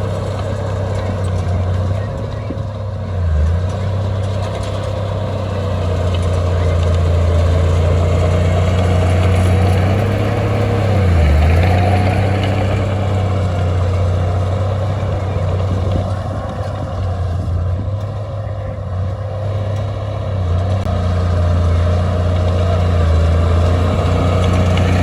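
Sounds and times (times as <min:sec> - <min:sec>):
heavy diesel engine working: 0:00.0 - 0:25.0.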